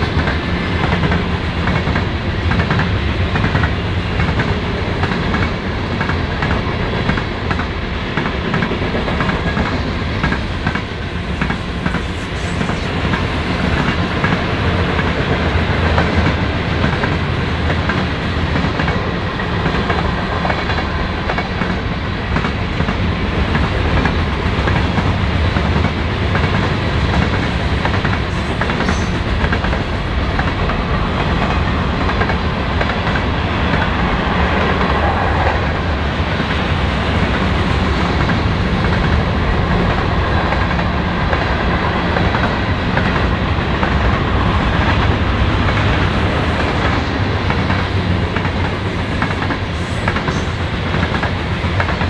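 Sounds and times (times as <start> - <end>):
freight train rumble: 0.0 - 52.0.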